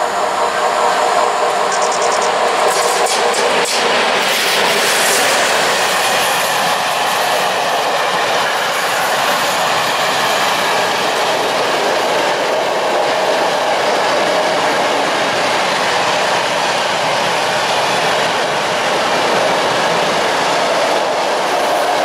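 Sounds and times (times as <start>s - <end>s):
steel wheels running on rails: 0.0s - 22.0s.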